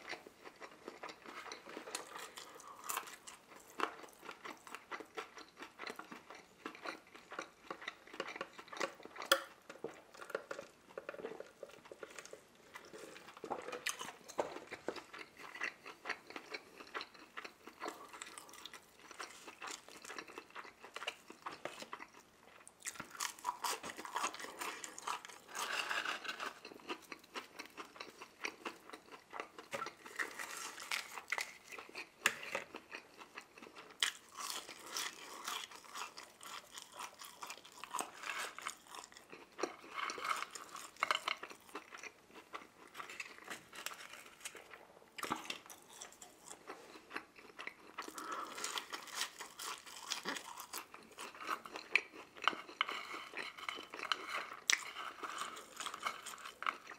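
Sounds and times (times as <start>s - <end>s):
crunchy chewing: 0.0s - 56.9s.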